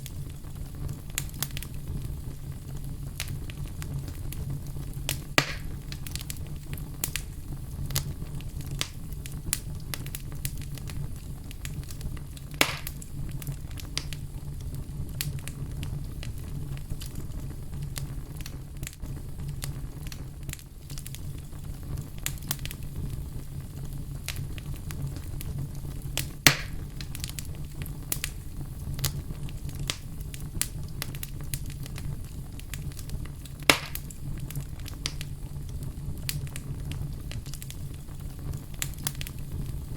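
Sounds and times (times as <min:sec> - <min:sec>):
burning wood popping: 0:00.0 - 0:39.9
wood fire crackling: 0:00.0 - 0:39.9.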